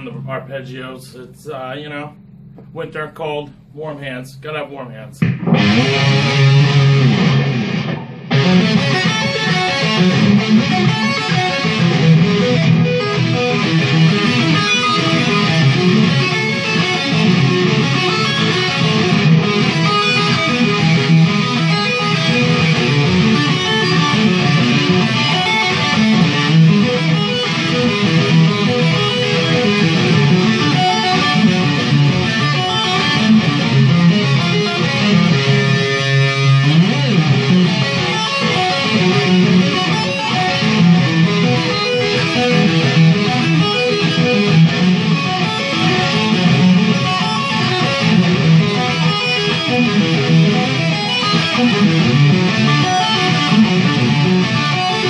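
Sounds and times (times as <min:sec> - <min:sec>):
distorted electric guitar licks: 0:00.0 - 0:55.0.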